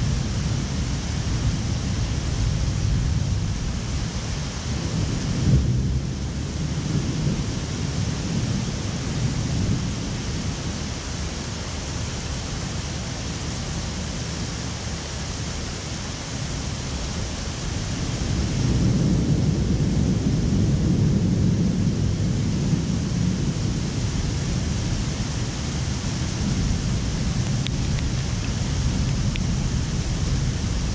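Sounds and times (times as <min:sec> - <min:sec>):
heavy rain hissing: 0:00.0 - 0:30.9
thunder rumbling: 0:00.0 - 0:30.9.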